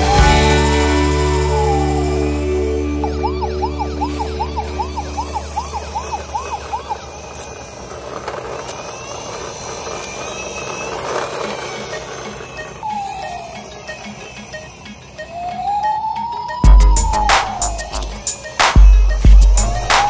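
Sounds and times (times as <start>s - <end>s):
toy siren whooping: 0.0s - 20.0s
plastic toy rolling on stone: 3.0s - 20.0s.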